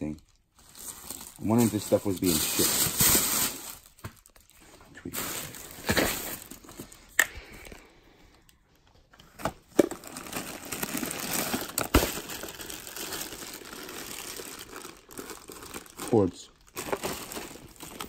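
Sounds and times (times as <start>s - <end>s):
plastic packaging crinkling: 0.0s - 7.8s, 9.3s - 18.0s.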